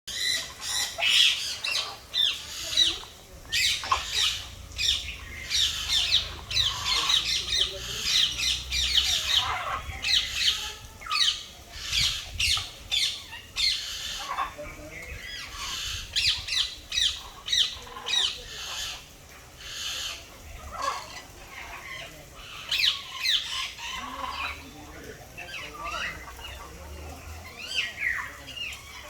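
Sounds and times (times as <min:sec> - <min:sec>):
parrot squawking: 0:00.1 - 0:24.8.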